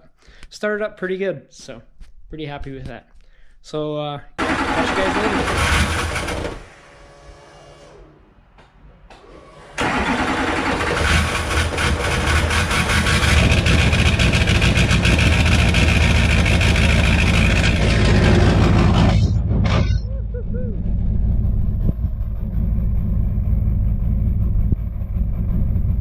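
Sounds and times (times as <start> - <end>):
diesel engine starting and running: 4.4 - 26.0.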